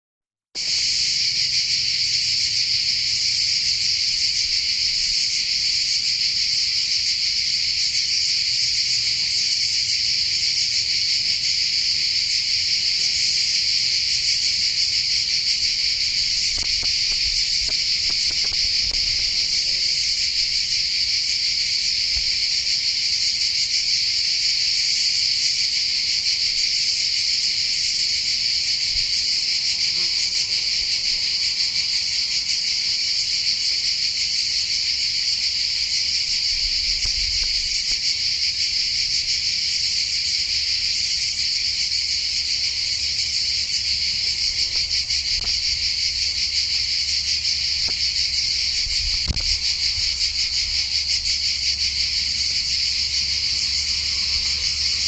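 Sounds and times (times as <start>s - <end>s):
insects buzzing shrilly: 0.6s - 55.0s.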